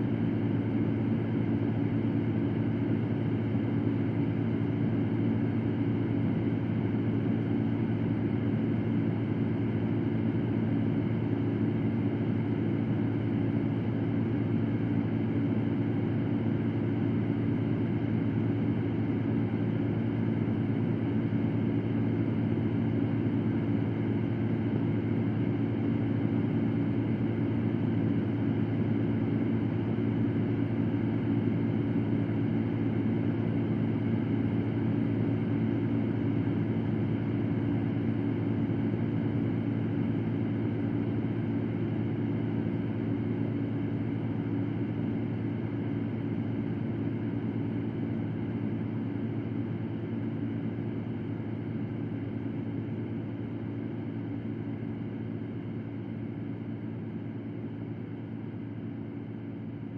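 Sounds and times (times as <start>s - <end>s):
faint motor hum: 0.0s - 59.9s.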